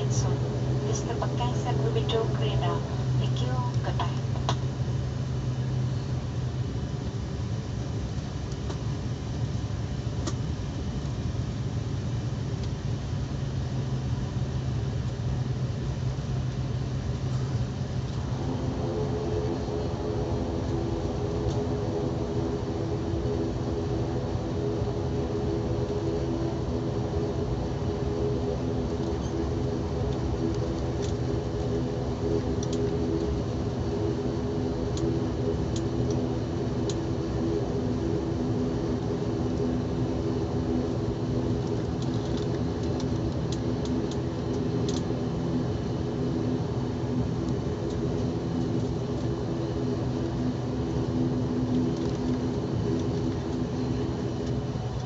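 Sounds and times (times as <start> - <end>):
engine and propeller drone: 0.0 - 55.0
steady humming tones: 0.0 - 55.0.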